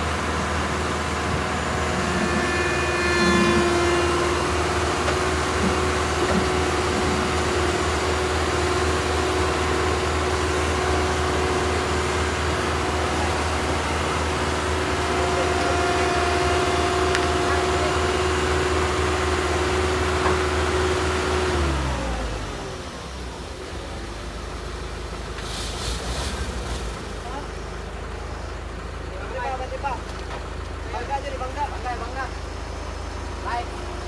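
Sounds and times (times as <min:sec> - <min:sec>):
constant machine whine: 0:00.0 - 0:34.0
diesel engine running under load: 0:00.0 - 0:34.0.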